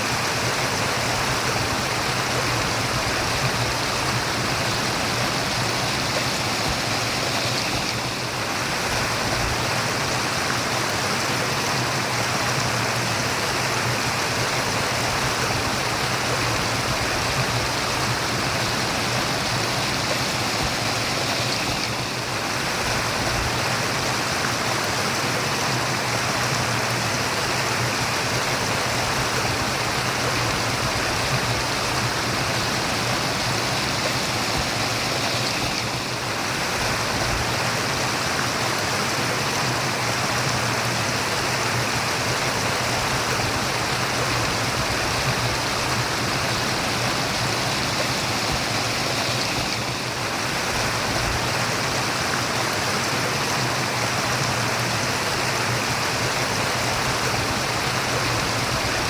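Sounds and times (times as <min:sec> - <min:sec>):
stream water murmuring: 0:00.0 - 0:59.0.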